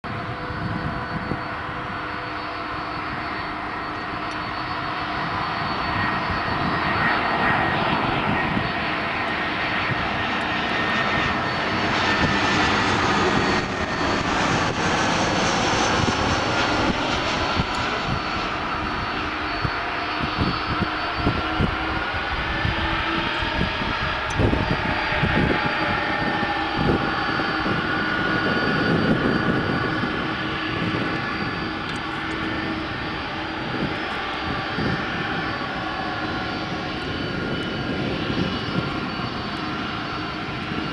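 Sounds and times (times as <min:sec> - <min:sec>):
high engine whine: 0:00.0 - 0:40.9
jet engines roaring: 0:00.0 - 0:40.9.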